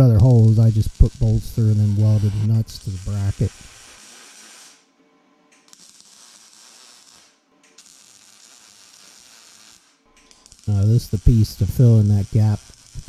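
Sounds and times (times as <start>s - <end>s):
welder arc crackling: 0.0s - 4.9s, 5.5s - 13.0s.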